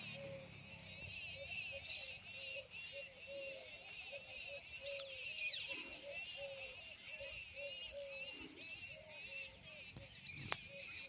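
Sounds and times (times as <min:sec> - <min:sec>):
falling bird calls: 0:00.0 - 0:11.0.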